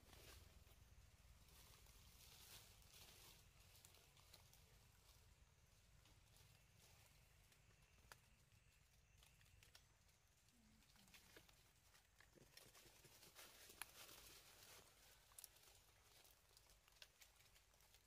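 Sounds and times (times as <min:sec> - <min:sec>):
dry leaf litter crackling: 0:00.0 - 0:18.0.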